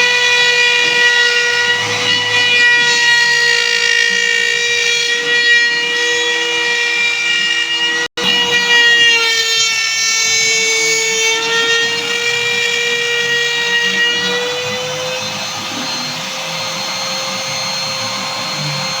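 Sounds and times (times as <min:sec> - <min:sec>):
cnc spindle high whine: 0:00.0 - 0:19.0.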